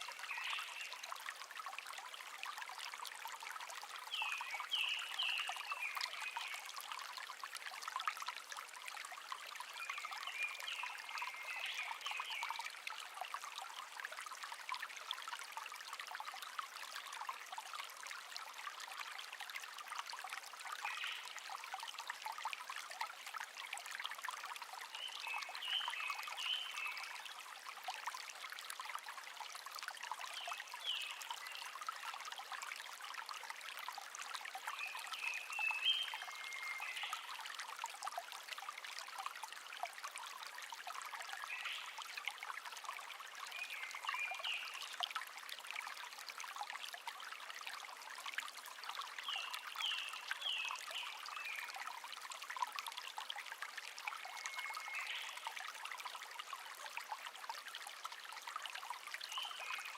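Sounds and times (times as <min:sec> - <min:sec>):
brook babbling and trickling: 0:00.0 - 0:59.9.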